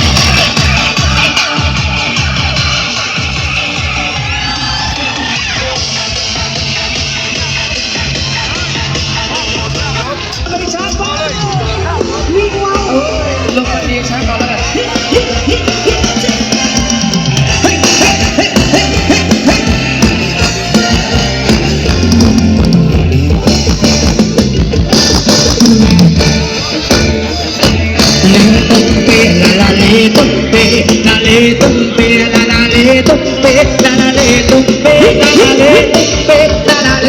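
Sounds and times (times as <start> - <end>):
loud music with singing: 0.0 - 37.0.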